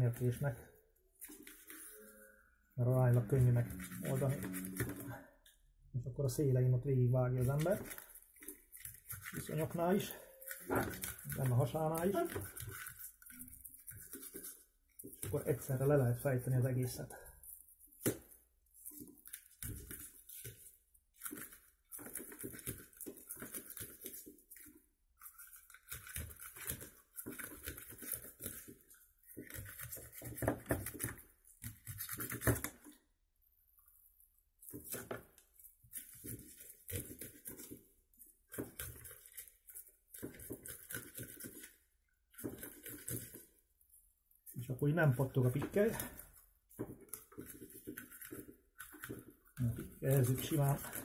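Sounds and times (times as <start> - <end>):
knife scraping fish scales: 1.2 - 5.2, 7.4 - 15.8, 17.3 - 32.9, 34.6 - 43.6, 47.1 - 51.0.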